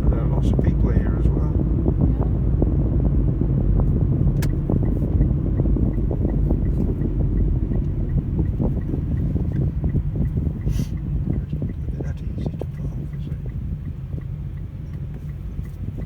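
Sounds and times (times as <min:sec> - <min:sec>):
car road and engine rumble: 0:00.0 - 0:16.0
faint regular ticking: 0:00.1 - 0:16.0.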